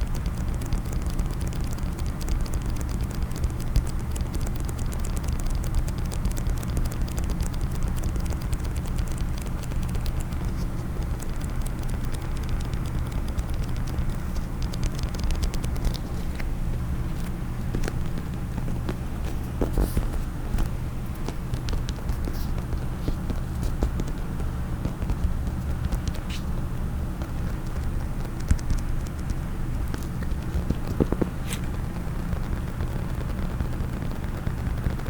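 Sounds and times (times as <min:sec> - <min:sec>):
rapid tapping on a case: 0:00.0 - 0:16.5, 0:17.2 - 0:35.0.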